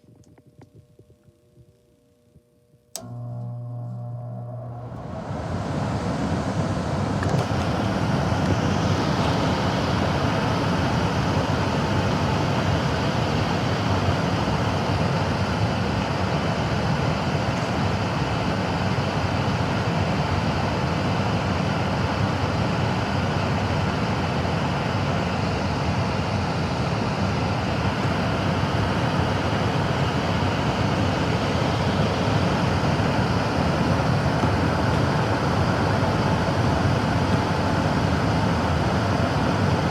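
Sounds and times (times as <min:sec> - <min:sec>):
gas furnace rushing air: 0:02.9 - 0:39.9.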